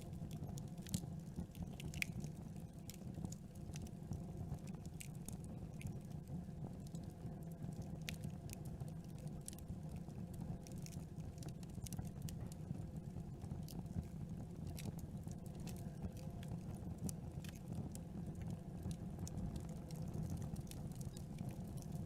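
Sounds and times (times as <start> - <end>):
campfire wood crackling: 0.0 - 22.0
low rumble of flames: 0.0 - 22.0.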